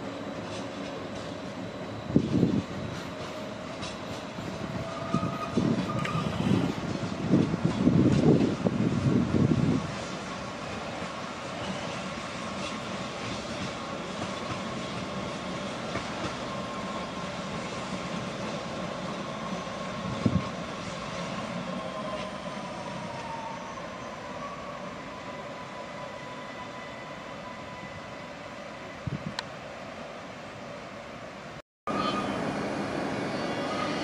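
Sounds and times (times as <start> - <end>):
train running on rails: 0.0 - 34.0.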